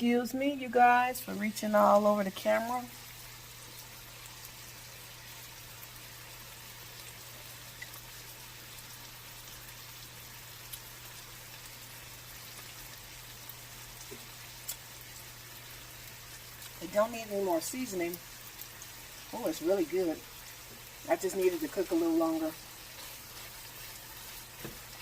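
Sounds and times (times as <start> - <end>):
chicken sizzling in a pan: 0.0 - 25.0
small pops of frying: 2.8 - 25.0.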